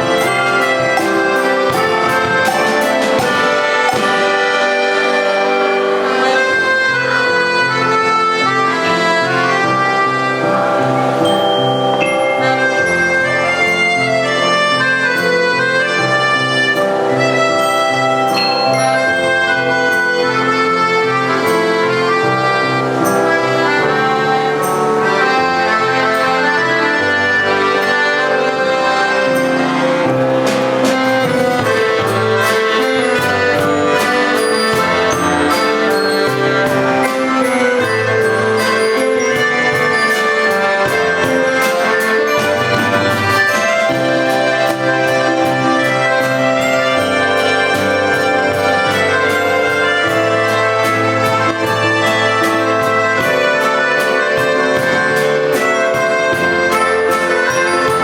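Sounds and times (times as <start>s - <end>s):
school band playing pop ballad: 0.0s - 58.0s.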